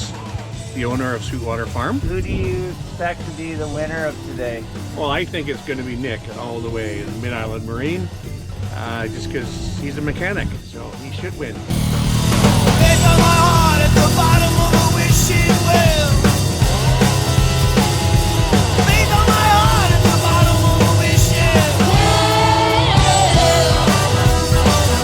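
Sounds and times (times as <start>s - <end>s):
rock music with vocals: 0.0s - 25.0s.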